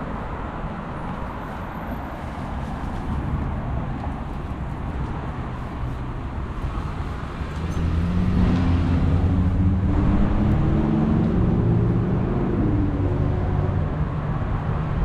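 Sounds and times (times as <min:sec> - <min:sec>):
city traffic rumble: 0:00.0 - 0:15.0
vehicle engine humming: 0:00.0 - 0:15.0.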